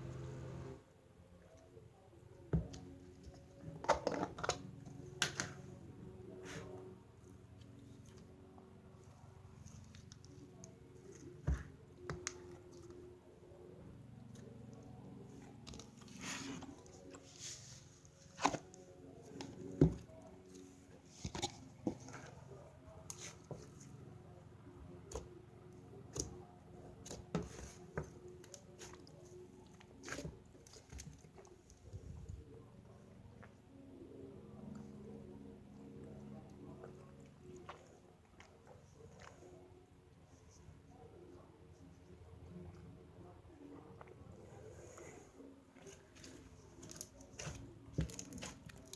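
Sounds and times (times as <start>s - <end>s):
faint music: 0.0s - 48.9s.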